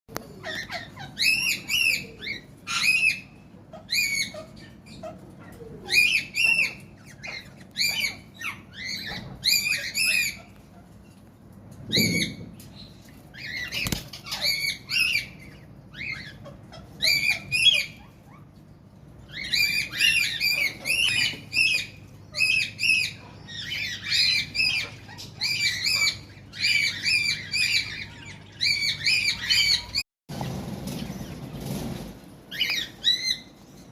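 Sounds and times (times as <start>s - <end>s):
budgerigars chirping: 0.2s - 10.7s, 11.8s - 18.4s, 19.2s - 33.6s.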